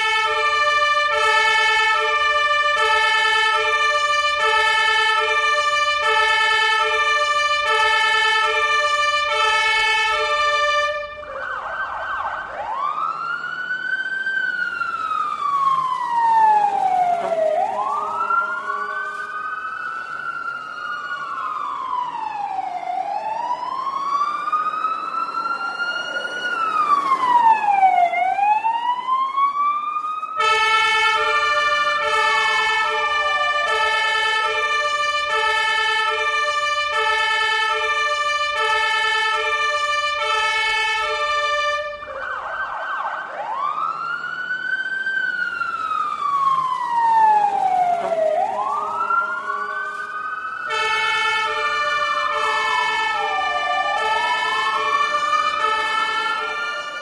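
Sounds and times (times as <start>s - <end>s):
fire engine siren: 0.0s - 57.0s.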